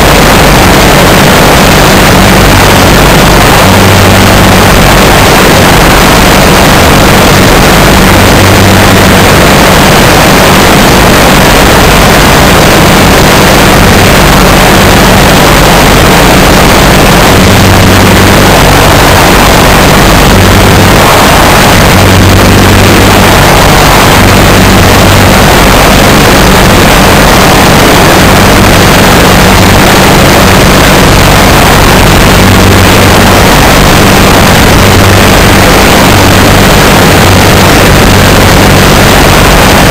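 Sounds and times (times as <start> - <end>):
ultralight engine drone: 0.0 - 39.9
wind rushing noise: 0.0 - 39.9.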